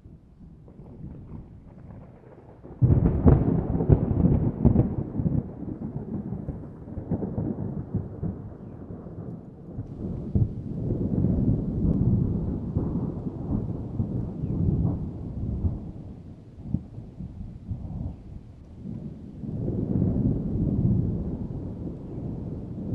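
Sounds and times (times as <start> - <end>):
thunder crackles: 0.1 - 22.9
distant thunder rumbling: 0.3 - 22.9.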